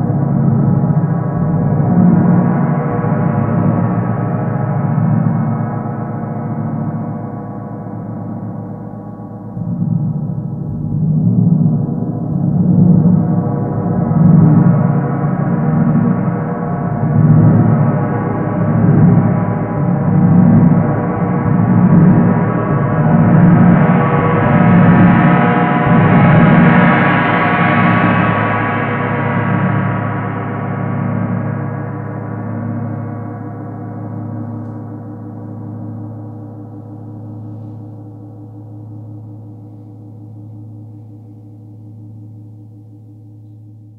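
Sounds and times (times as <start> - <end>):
gong struck with soft mallet: 0.0 - 43.6.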